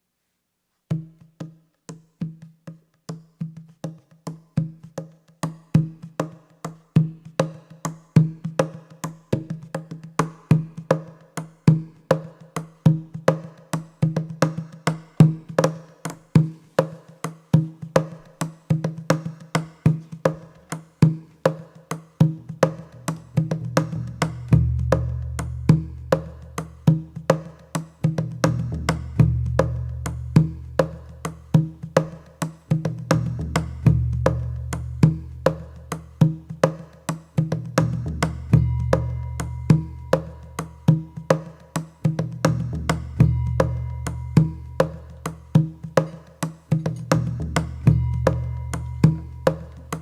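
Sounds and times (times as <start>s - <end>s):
low percussion struck rhythmically: 3.1s - 50.0s.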